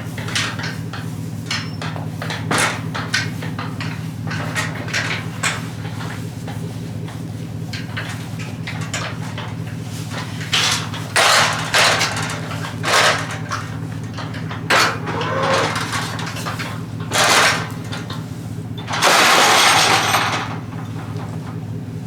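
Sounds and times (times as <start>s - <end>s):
engine idling: 0.0s - 22.0s
metal panels clanking and scraping: 0.0s - 22.0s.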